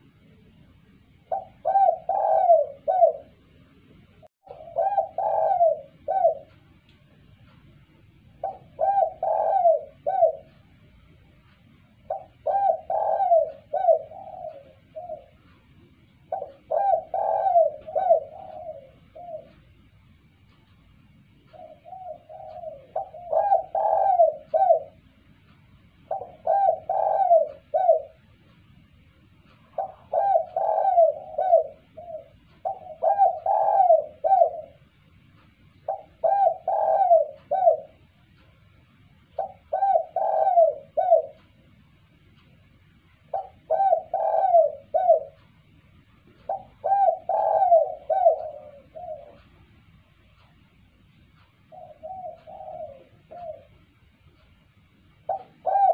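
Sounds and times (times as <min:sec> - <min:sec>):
dove cooing: 0:00.0 - 0:03.6, 0:04.4 - 0:20.2, 0:21.4 - 0:28.5, 0:29.5 - 0:35.1, 0:35.7 - 0:38.4, 0:39.3 - 0:41.7, 0:43.2 - 0:45.7, 0:46.3 - 0:49.7, 0:51.4 - 0:54.4, 0:55.1 - 0:55.9.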